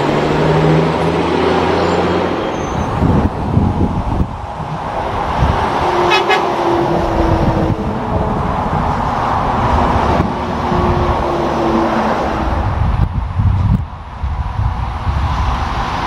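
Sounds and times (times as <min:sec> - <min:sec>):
highway traffic rushing: 0:00.0 - 0:16.0
passing vehicle tonal whine: 0:00.0 - 0:16.0.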